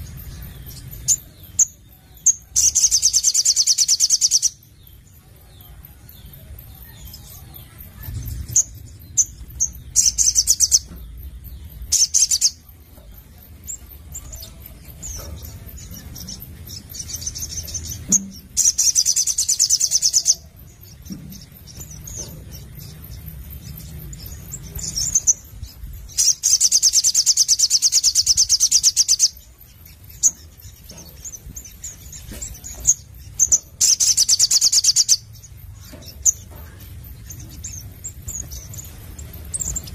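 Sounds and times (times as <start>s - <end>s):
bird chips: 0.0s - 39.9s
faint low hum: 0.0s - 39.9s.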